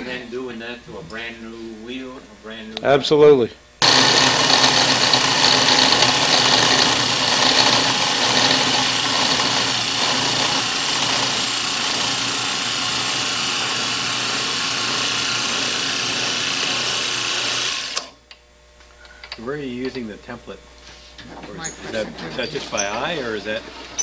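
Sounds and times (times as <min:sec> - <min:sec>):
motor hum: 0:03.6 - 0:24.0.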